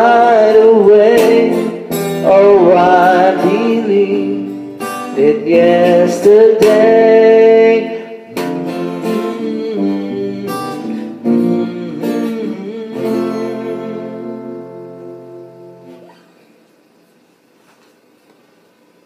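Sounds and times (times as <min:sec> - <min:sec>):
acoustic guitar strumming chords: 0:00.0 - 0:16.4.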